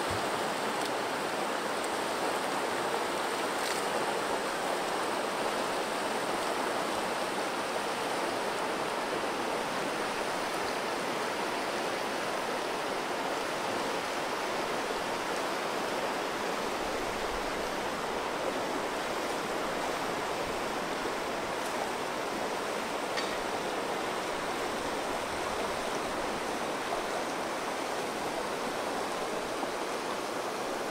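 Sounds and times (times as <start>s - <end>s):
river water rushing over rocks: 0.0s - 30.9s.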